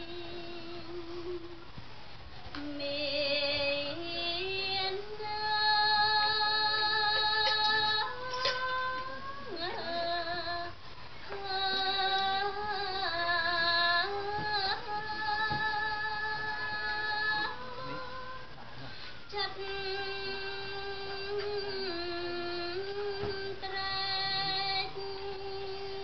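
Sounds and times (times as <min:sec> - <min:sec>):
woman chanting into a microphone: 0:00.0 - 0:01.7, 0:02.6 - 0:18.6, 0:19.3 - 0:26.0.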